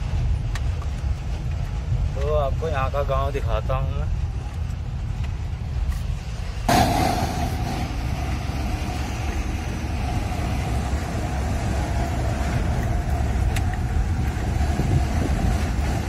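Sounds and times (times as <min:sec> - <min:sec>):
diesel truck engine rumble: 0:00.0 - 0:16.0
road and air noise: 0:00.0 - 0:16.0.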